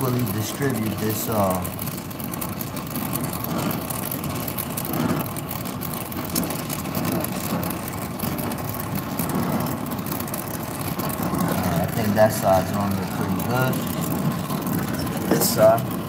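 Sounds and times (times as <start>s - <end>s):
brazing torch flame hissing: 0.0s - 16.0s.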